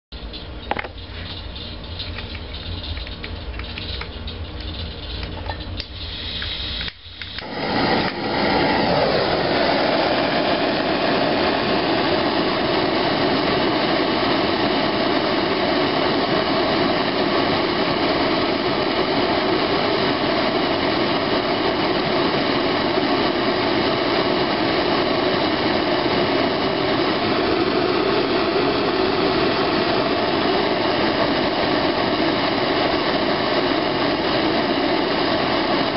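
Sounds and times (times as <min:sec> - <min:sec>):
low hum: 0:00.1 - 0:35.9
blowtorch flame hissing: 0:00.6 - 0:35.9.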